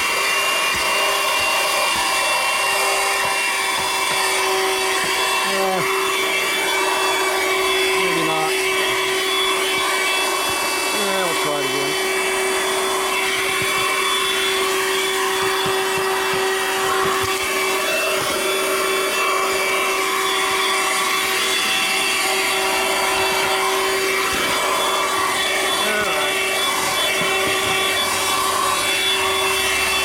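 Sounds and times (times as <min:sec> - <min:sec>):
handheld vacuum motor running: 0:00.0 - 0:30.0
vacuum nozzle scraping: 0:00.0 - 0:30.0.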